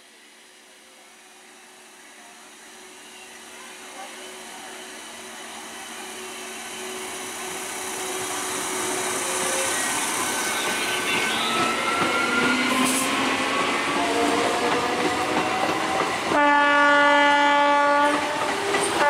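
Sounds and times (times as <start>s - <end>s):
electric train running past: 0.0s - 19.0s.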